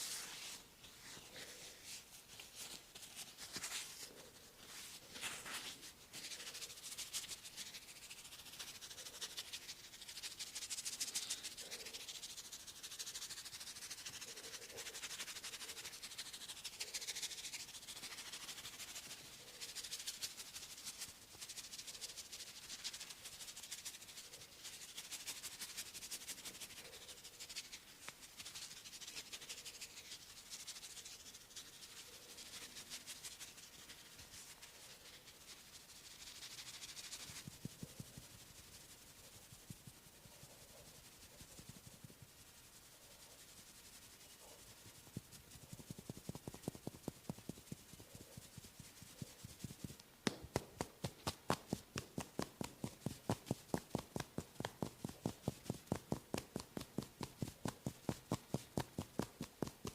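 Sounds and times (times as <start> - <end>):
hands rubbing hair and scalp: 0.0 - 59.9.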